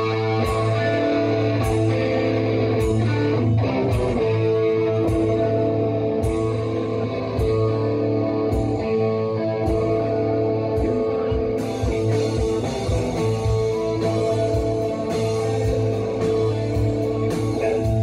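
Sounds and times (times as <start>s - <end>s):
distorted electric guitar chords: 0.0s - 18.0s
rock music: 0.0s - 18.0s.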